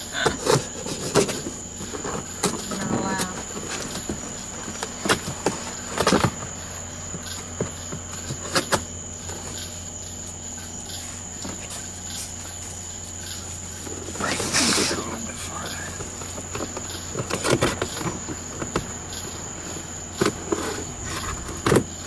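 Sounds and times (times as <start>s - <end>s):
high insect trill: 0.0s - 22.0s.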